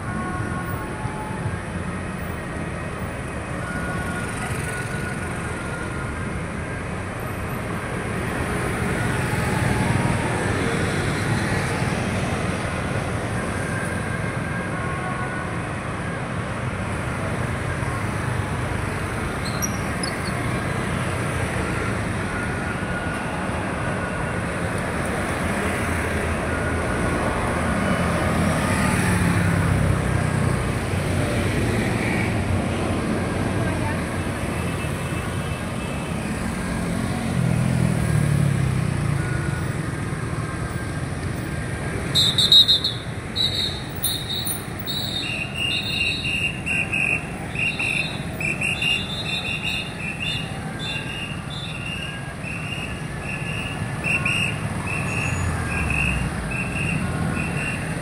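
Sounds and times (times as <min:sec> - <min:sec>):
vehicle running noise: 0:00.0 - 0:58.0.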